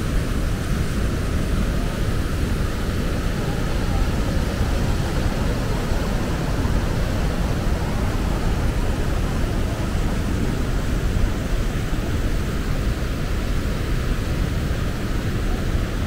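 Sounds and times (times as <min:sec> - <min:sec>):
river rapids roaring: 0:00.0 - 0:16.0.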